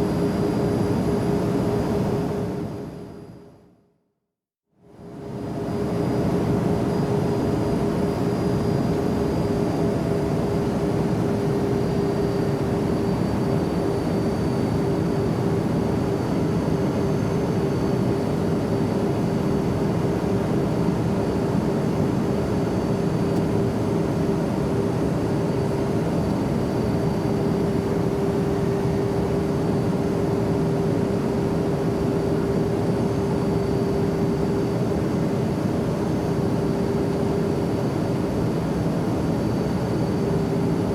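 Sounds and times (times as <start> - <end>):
jet engines droning: 5.2 - 40.9.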